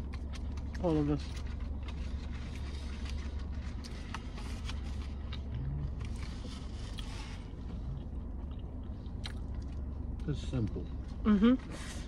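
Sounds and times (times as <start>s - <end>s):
chewing and mouth clicks: 0.0s - 10.4s
low hum inside car: 0.0s - 12.0s.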